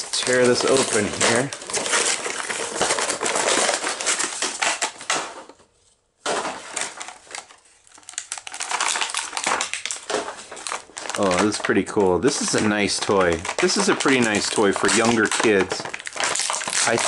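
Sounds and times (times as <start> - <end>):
packaging crinkling and tearing: 0.0 - 5.6, 6.2 - 17.0.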